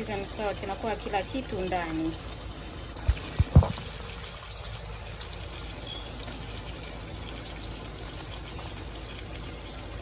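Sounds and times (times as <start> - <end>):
stew bubbling in pot: 0.0 - 10.0.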